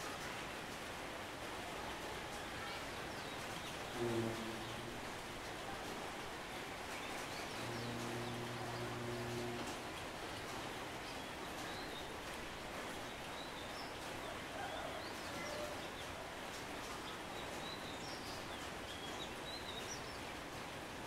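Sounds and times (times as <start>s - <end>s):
rain on foliage: 0.0s - 21.0s.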